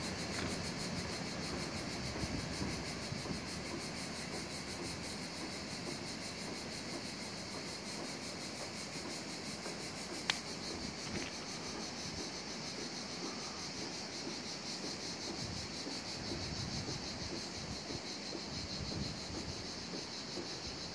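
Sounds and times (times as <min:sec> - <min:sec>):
insects buzzing: 0:00.0 - 0:20.9.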